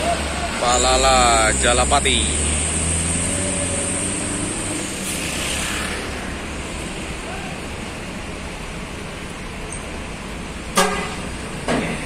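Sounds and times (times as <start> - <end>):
bus diesel engine hum: 0.0 - 12.0
steady rushing noise: 0.8 - 11.6.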